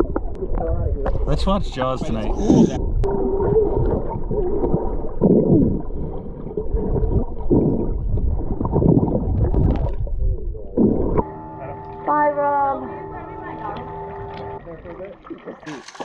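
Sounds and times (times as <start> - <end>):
muffled underwater gurgling: 0.0 - 15.8.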